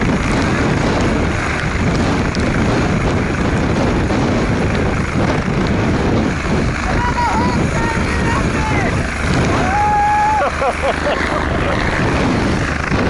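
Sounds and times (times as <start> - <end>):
helicopter engine and rotor running: 0.0 - 13.0.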